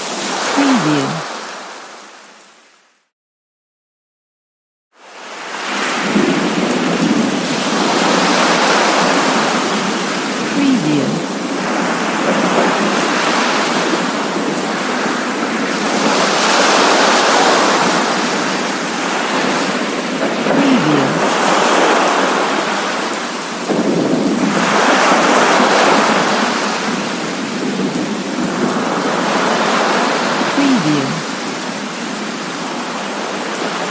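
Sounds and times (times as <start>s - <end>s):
steady rain: 0.0s - 2.9s, 5.0s - 33.9s.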